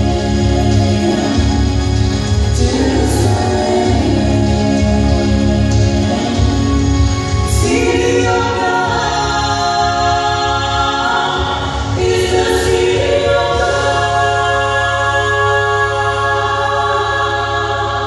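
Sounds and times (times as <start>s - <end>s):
vocal trio singing gospel in harmony: 0.0s - 18.0s.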